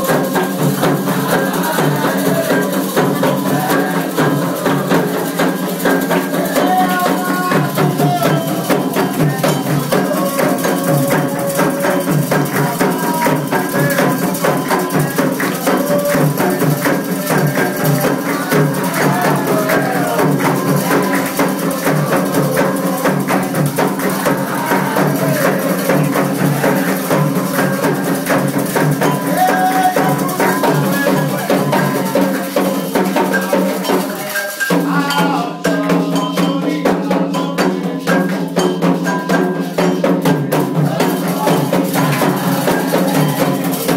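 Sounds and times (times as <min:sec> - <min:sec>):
shaker: 0:00.0 - 0:36.8, 0:37.4 - 0:43.9
hand drums beating: 0:00.0 - 0:43.9
voices singing: 0:00.0 - 0:43.9.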